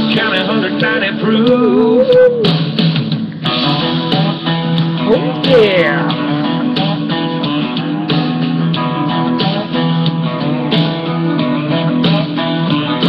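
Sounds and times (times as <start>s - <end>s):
strummed and plucked guitar: 0.0s - 13.0s
steady beat: 1.2s - 12.4s.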